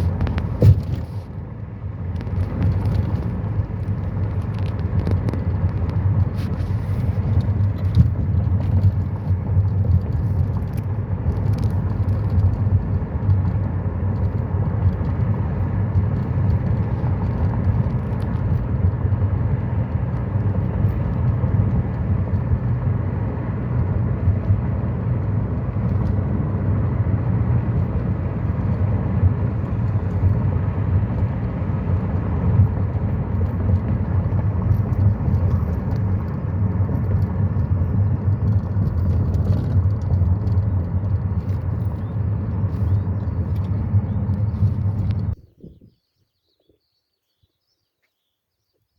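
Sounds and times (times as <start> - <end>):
car engine rumbling: 0.0 - 45.6.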